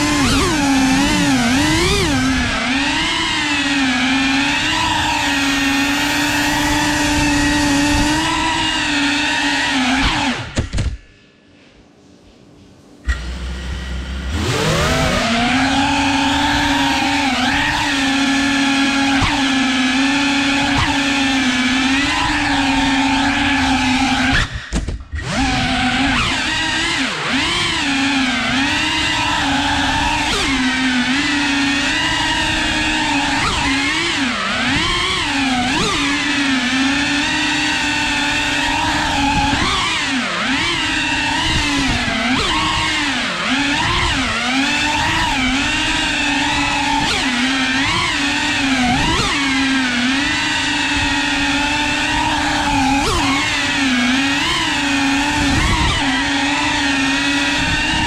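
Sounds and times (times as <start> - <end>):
drone motors whining: 0.0 - 11.4, 12.9 - 58.0.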